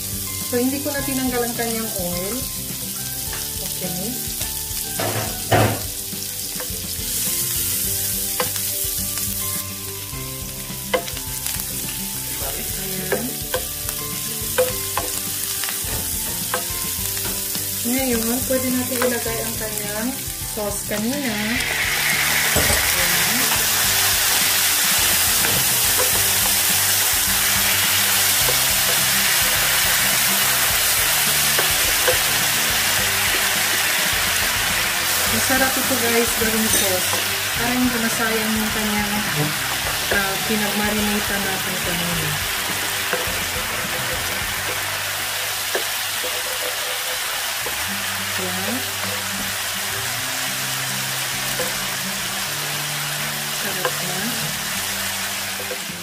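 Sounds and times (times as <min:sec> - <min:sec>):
background music with held notes: 0:00.0 - 0:56.0
onion sizzling in oil: 0:00.0 - 0:56.0.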